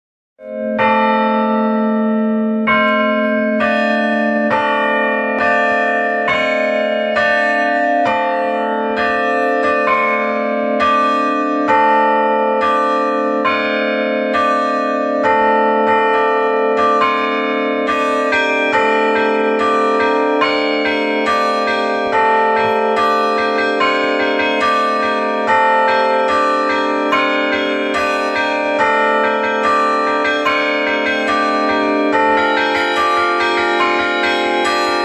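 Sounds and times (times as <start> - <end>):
bells chiming: 0.5 - 35.0.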